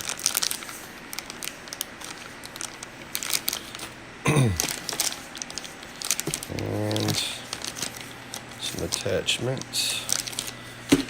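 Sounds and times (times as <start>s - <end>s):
plastic packaging crinkling: 0.0s - 3.9s, 4.6s - 11.0s.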